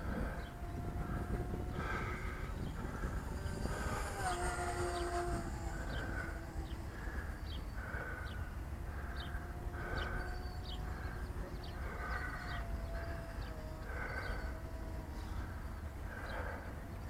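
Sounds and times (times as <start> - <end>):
electric motor whine: 0.0 - 17.0
wind rumbling on microphone: 0.0 - 17.0.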